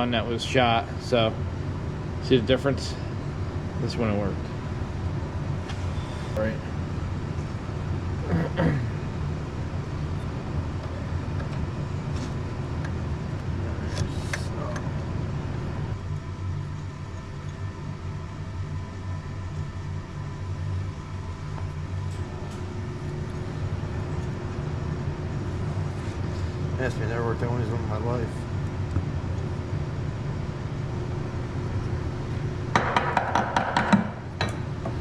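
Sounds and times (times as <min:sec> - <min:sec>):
low machine drone: 0:00.0 - 0:35.0.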